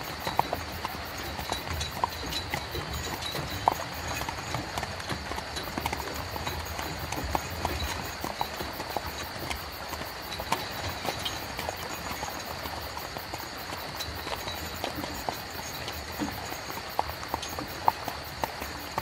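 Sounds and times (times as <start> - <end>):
carriage rolling rumble: 0.0 - 19.0
horse hooves clip-clopping: 0.0 - 19.0.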